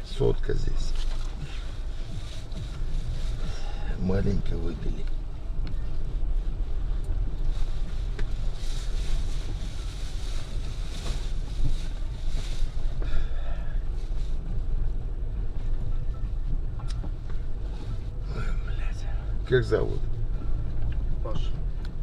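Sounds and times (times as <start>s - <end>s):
car engine and cabin noise: 0.0s - 22.0s.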